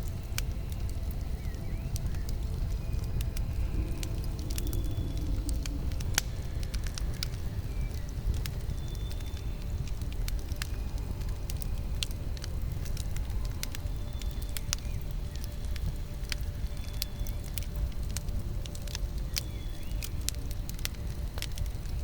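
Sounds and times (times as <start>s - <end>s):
burning wood crackling and popping: 0.0s - 22.0s
low rush of campfire: 0.0s - 22.0s.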